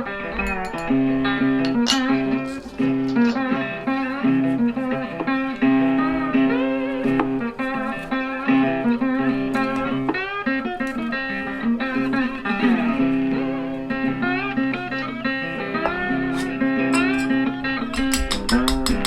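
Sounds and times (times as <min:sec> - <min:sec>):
blues guitar music: 0:00.0 - 0:19.0.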